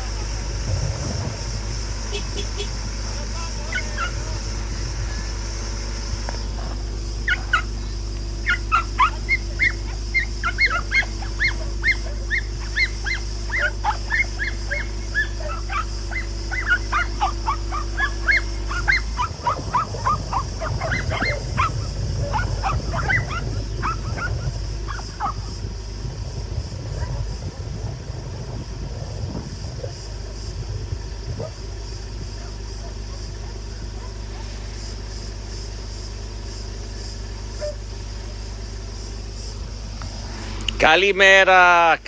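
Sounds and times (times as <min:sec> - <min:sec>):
dogs yipping and barking: 0:00.0 - 0:25.8, 0:26.8 - 0:27.5, 0:31.0 - 0:40.9
steady low hum: 0:00.0 - 0:42.0.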